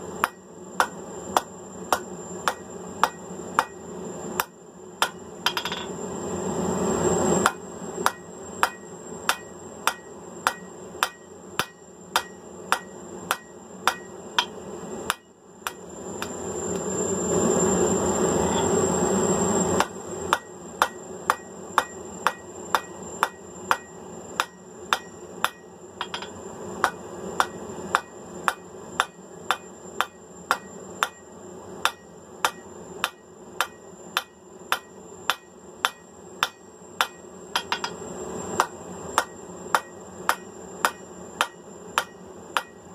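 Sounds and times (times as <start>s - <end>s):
hammer striking steel on anvil: 0.2s - 3.8s, 4.4s - 6.0s, 7.4s - 16.3s, 19.8s - 31.2s, 31.8s - 38.0s, 38.6s - 42.9s.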